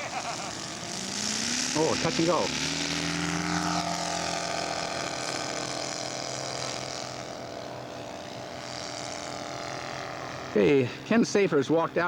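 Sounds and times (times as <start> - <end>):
model airplane engine running: 0.0 - 12.0.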